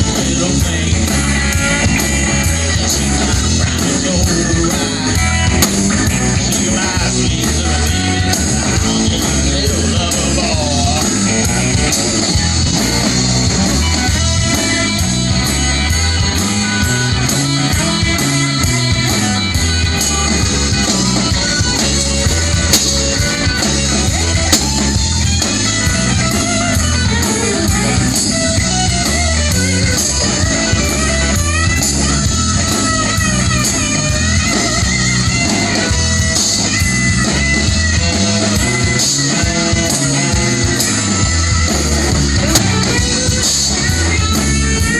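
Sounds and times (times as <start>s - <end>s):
electric guitar: 0.0s - 44.9s
rock band playing: 0.0s - 44.9s.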